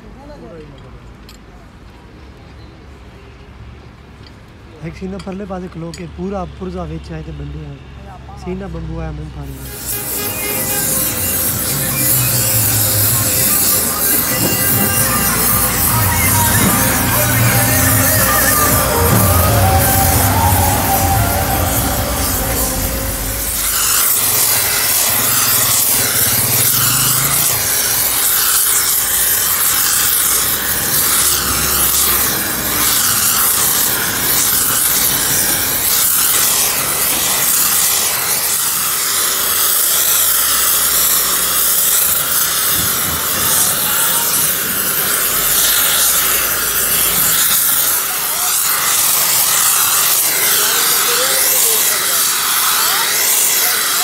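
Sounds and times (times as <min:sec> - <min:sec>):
metalworking hissing and rubbing: 0:09.4 - 0:54.0.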